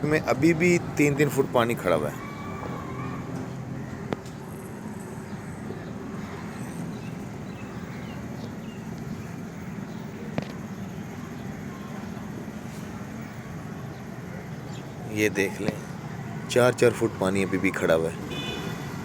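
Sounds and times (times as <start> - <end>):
faint distant voices: 0.0 - 19.0.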